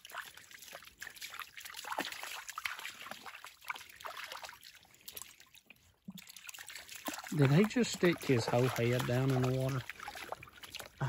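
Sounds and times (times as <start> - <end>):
creek water trickling: 0.0 - 11.0
dog wading splashes: 0.0 - 11.0.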